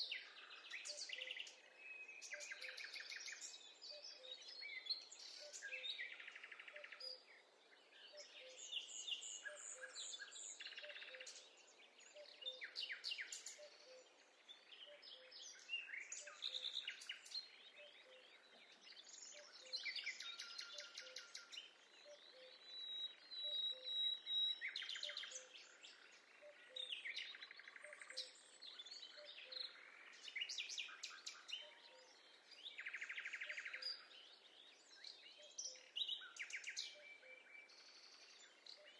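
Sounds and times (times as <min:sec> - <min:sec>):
birds singing: 0:00.0 - 0:38.9
faint outdoor hiss: 0:00.0 - 0:38.9.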